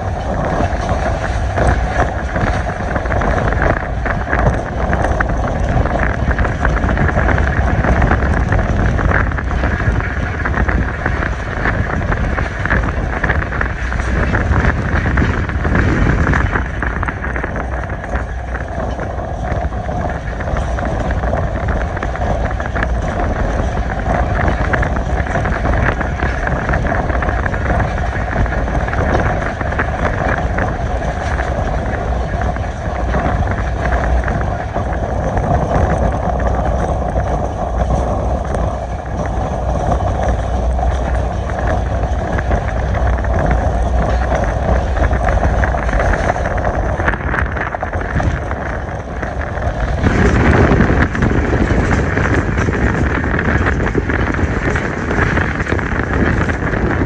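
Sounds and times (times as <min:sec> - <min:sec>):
train wheels rumbling on rail: 0:00.0 - 0:57.0
wind buffeting microphone: 0:00.0 - 0:57.0.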